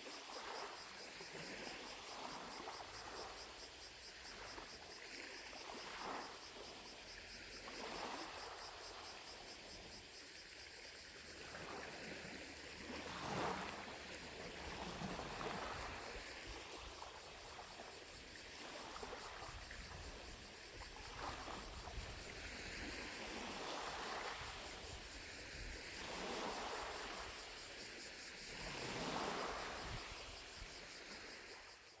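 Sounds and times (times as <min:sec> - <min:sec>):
distant cicadas buzzing: 0:00.0 - 0:32.0
waves lapping on shore: 0:00.0 - 0:32.0.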